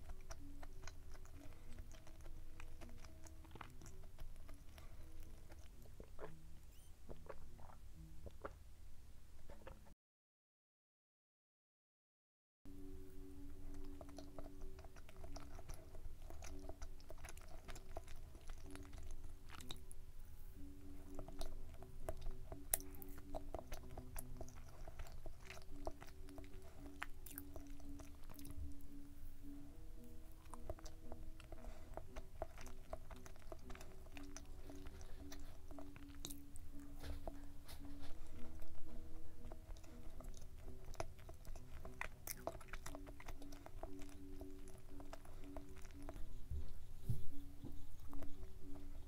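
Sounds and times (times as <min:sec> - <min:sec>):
chewing with wet mouth clicks: 0:00.0 - 0:08.6, 0:13.3 - 0:20.0, 0:20.6 - 0:49.0
quiet background music: 0:00.0 - 0:09.9, 0:12.7 - 0:49.0.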